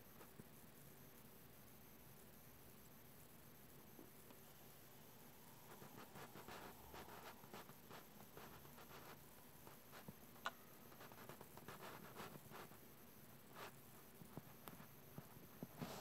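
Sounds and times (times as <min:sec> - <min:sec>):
soft ticks and rustles: 0:02.1 - 0:04.5, 0:05.2 - 0:16.0.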